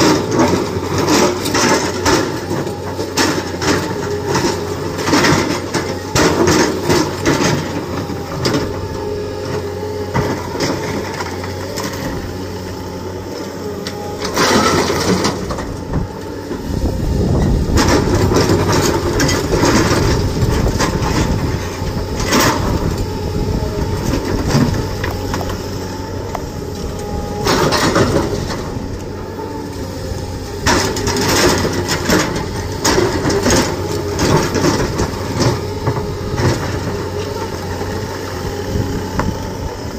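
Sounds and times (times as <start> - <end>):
hydraulic breaker hammering rock: 0.0 - 9.0, 9.6 - 39.9
diesel engines running: 0.0 - 39.9.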